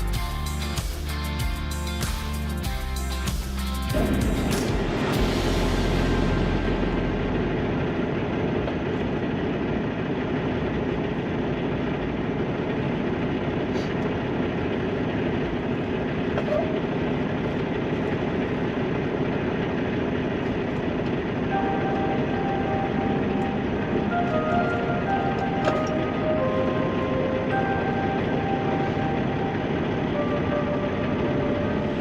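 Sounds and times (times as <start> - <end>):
road rumble: 0.0 - 32.0
truck engine running: 0.0 - 32.0.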